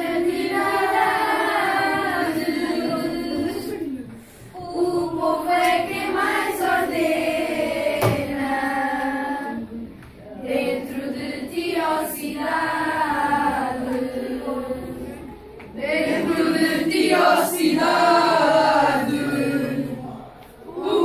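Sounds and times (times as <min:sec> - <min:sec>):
children singing in unison: 0:00.0 - 0:21.0.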